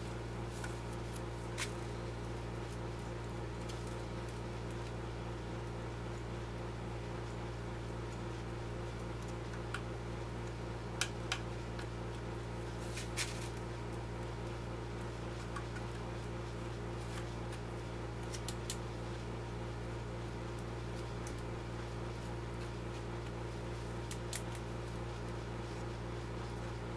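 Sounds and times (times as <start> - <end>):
low electrical hum: 0.0 - 26.9.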